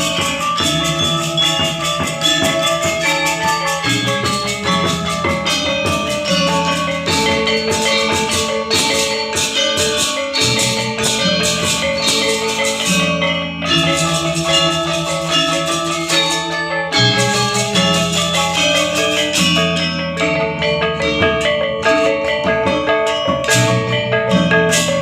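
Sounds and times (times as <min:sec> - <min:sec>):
bronze metallophones struck fast: 0:00.0 - 0:25.0
gamelan ensemble playing: 0:00.0 - 0:25.0.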